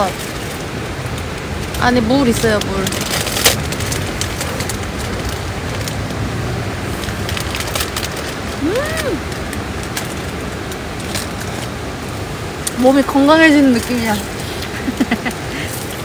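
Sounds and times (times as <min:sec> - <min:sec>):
steady rushing background noise: 0:00.0 - 0:16.0.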